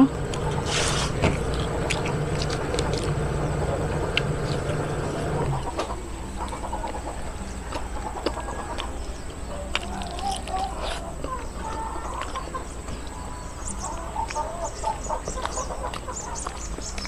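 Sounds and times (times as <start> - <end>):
chickens clucking: 0.0 - 17.0
low steady hum: 0.0 - 17.0.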